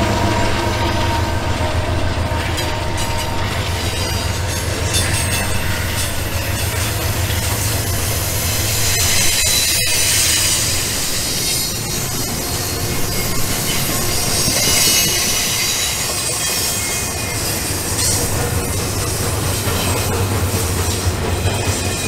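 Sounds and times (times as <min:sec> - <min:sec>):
model train hum: 0:00.0 - 0:22.0
small wheels rattling on rails: 0:00.0 - 0:22.0.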